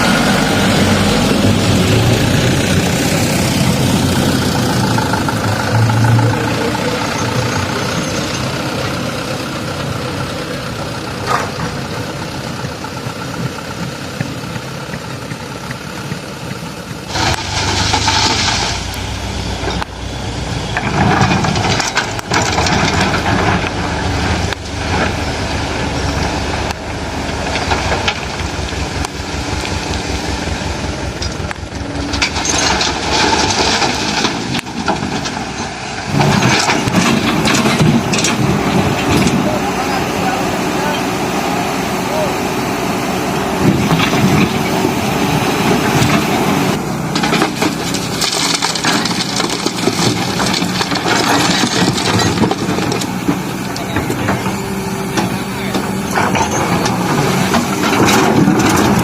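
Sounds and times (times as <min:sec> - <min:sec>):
heavy machinery diesel engines: 0:00.0 - 0:59.0.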